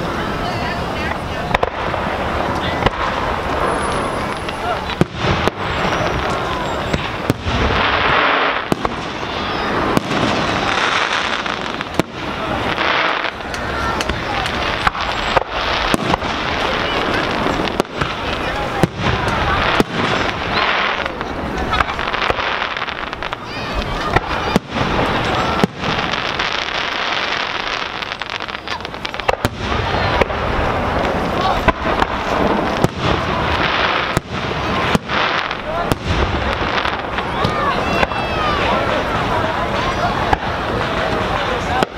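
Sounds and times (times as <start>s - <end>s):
continuous noisy hiss: 0.0s - 41.9s
firework shells bursting: 1.5s - 39.1s.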